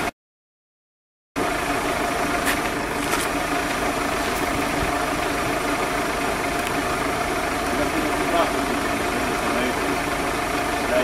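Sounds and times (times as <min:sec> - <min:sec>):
car engine idling: 0:01.4 - 0:11.0.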